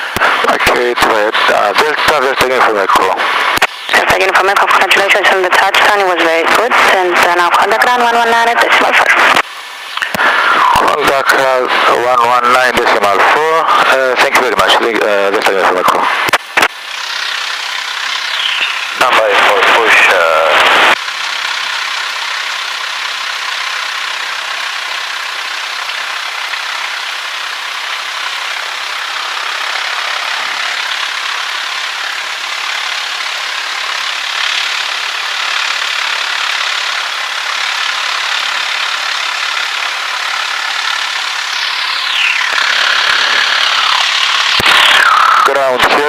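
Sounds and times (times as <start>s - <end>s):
small plane engine droning: 0.0s - 46.0s
engine whine falling in pitch: 0.4s - 21.0s, 26.9s - 46.0s.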